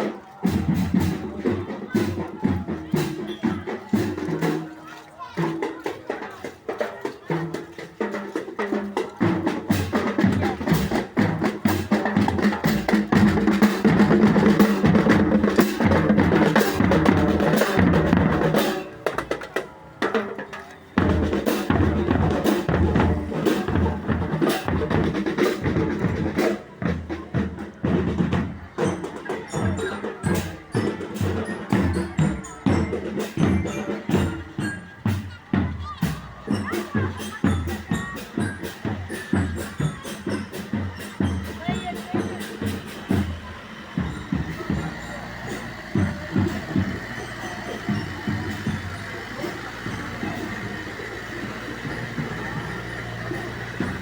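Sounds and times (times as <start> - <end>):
marching drumline playing: 0.0 - 54.0.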